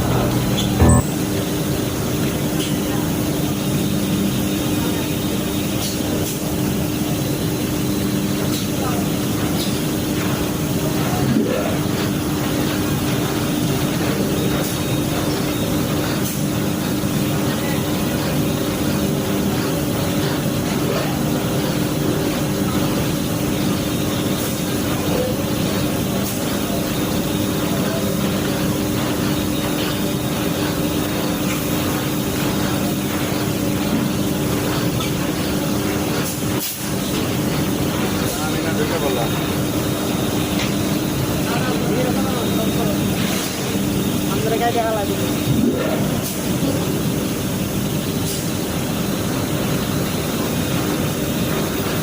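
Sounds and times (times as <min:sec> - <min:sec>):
washing machine running: 0:00.0 - 0:52.0.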